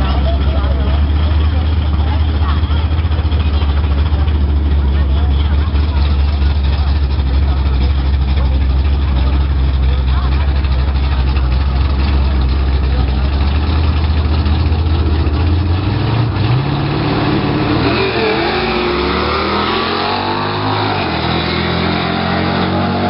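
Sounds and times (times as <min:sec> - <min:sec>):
racing car engine revving: 0:00.0 - 0:23.0.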